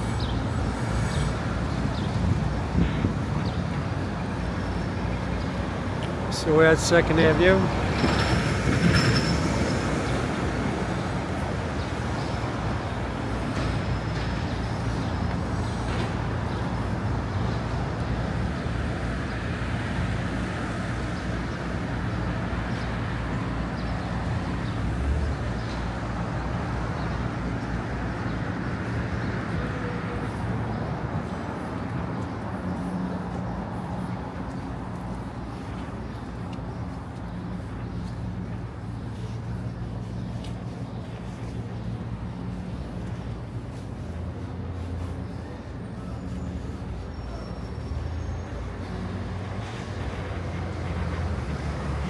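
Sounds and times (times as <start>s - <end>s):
city street traffic hum: 0.0s - 52.0s.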